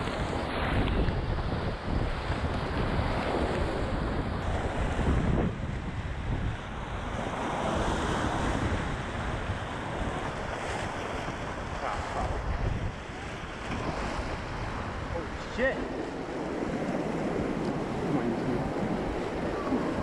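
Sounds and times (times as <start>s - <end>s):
rapids rushing and splashing: 0.0s - 20.0s
wind buffeting microphone: 0.0s - 20.0s.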